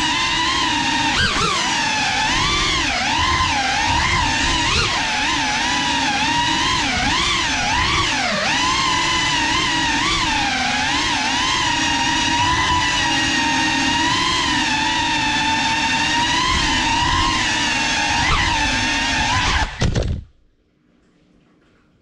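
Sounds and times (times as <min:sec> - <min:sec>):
drone motors whining: 0:00.0 - 0:20.2.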